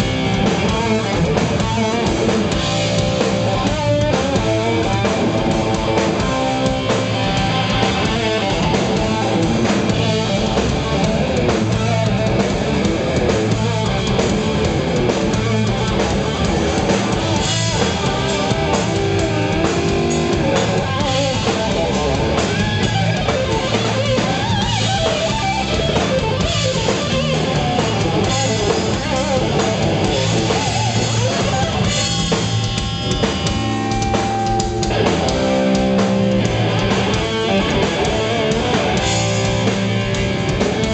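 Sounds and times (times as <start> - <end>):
distorted electric guitars: 0.0 - 40.9
drum kit: 0.0 - 40.9.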